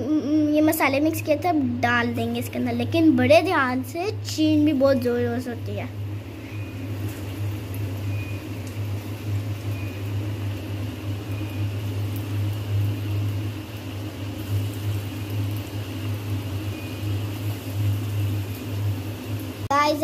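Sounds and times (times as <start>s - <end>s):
low hum: 0.0s - 19.7s
fries sizzling in hot oil: 0.4s - 20.0s.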